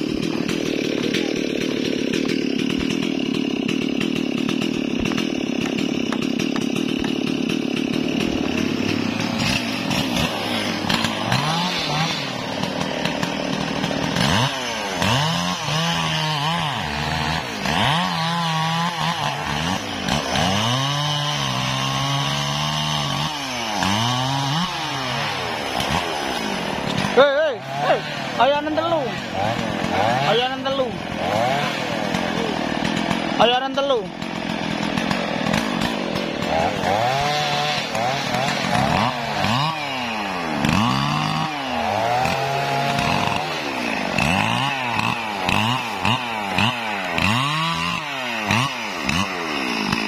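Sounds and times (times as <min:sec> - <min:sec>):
chainsaw revving: 0:00.0 - 0:50.0.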